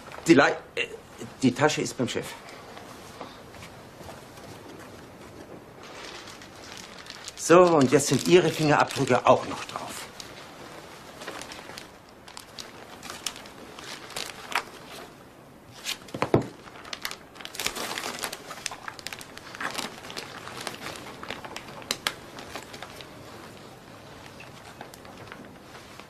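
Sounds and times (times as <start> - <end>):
plastic bag crinkling: 4.2 - 26.0.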